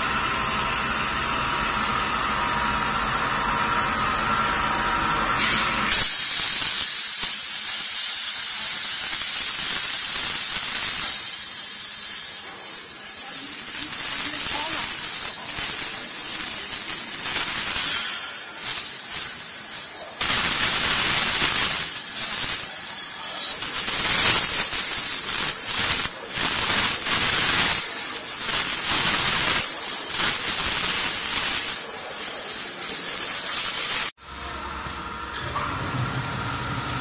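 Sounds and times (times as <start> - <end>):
waterjet hissing on metal: 3.8 - 34.2.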